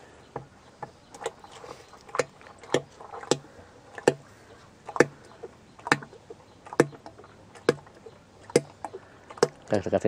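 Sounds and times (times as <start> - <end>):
liquid glugging from jerrycan: 0.4 - 10.0.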